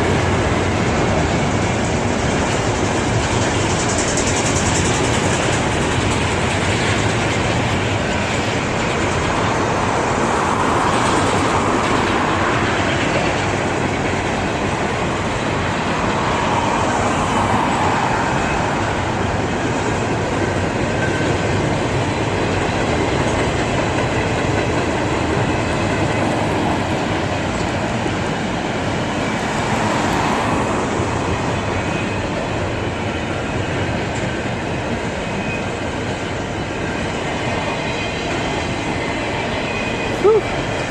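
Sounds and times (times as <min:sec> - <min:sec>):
train wheels rolling on rails: 0:00.0 - 0:40.9.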